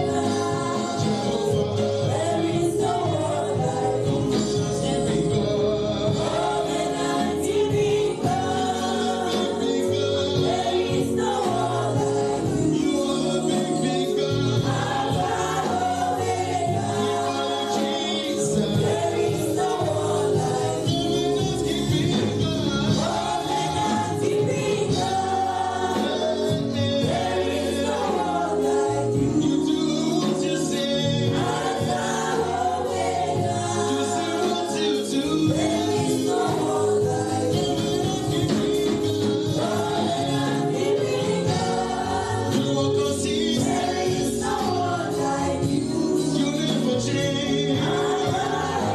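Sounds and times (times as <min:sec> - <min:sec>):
gospel choir singing: 0:00.0 - 0:48.9
instrumental backing: 0:00.0 - 0:48.9.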